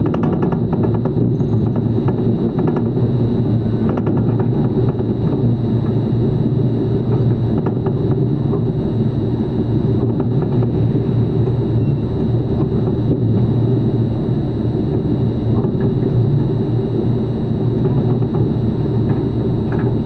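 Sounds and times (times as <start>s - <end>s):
faint high whine: 0.0s - 3.9s, 4.9s - 20.0s.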